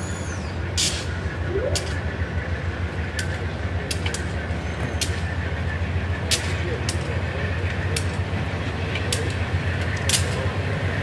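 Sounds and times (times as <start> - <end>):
passenger train rumbling past: 0.0 - 11.0.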